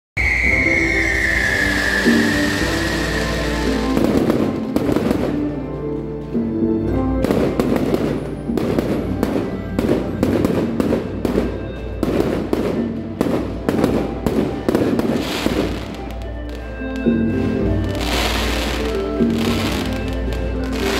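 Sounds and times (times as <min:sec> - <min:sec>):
fireworks bangs: 0:00.2 - 0:05.6, 0:07.2 - 0:20.9
music playing: 0:00.2 - 0:20.9.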